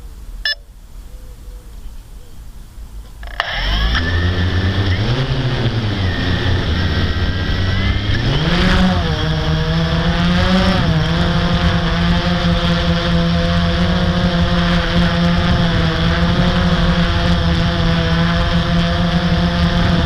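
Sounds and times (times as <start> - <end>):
quadcopter propellers whirring: 3.0 - 20.0.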